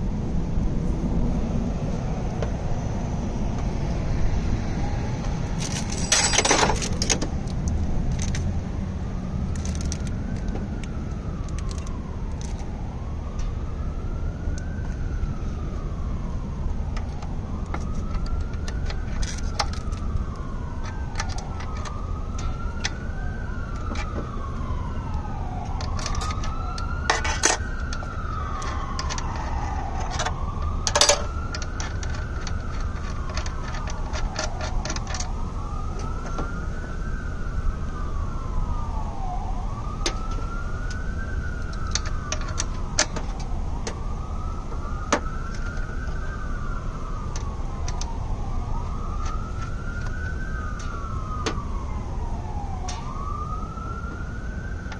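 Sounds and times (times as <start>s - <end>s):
siren wailing: 0.0s - 54.9s
steady low rumble: 0.0s - 54.9s.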